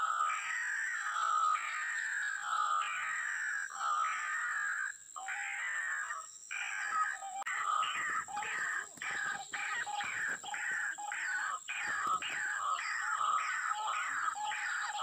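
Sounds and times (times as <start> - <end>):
waterhens croaking calls: 0.0 - 15.0.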